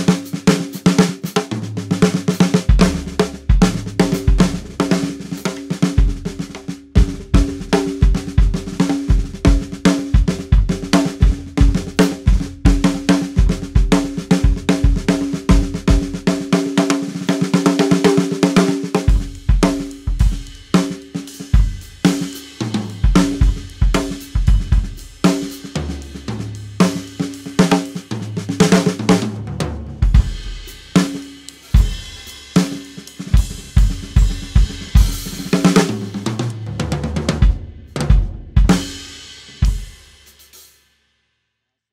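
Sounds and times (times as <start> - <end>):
cymbals: 0.0 - 29.1, 30.0 - 36.7, 38.7 - 40.8
tom and snare fills: 0.0 - 37.3
drum kit playing: 0.0 - 40.8.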